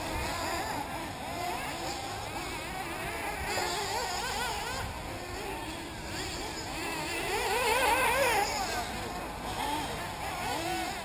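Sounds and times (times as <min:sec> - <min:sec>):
model car engines whining: 0:00.0 - 0:11.0.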